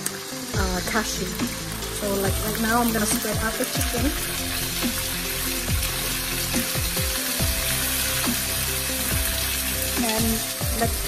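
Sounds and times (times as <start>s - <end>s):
background music: 0.0s - 11.0s
chicken sizzling in hot oil: 0.0s - 11.0s.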